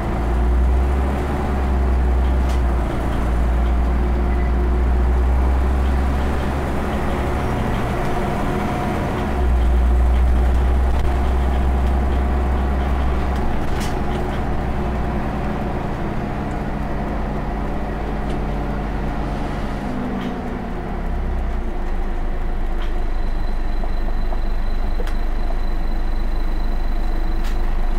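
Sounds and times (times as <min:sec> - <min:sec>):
bus diesel engine rumble: 0:00.0 - 0:27.9
road noise: 0:00.0 - 0:27.9.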